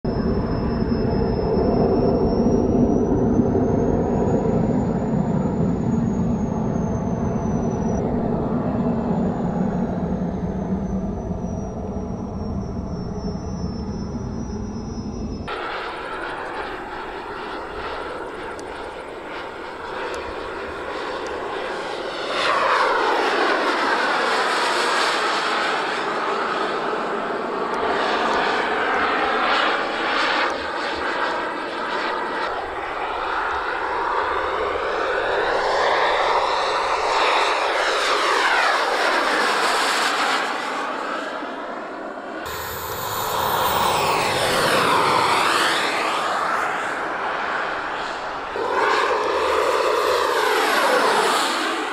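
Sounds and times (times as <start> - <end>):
model jet turbine whine: 0.1 - 51.9.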